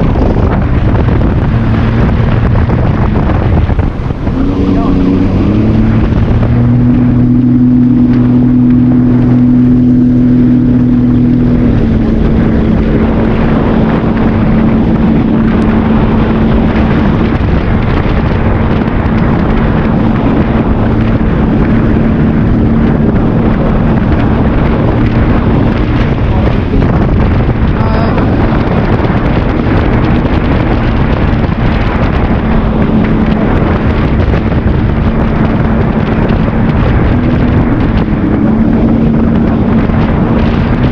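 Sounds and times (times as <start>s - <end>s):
continuous rush of noise: 0.0s - 40.9s
jet ski engine running hard: 0.0s - 40.9s.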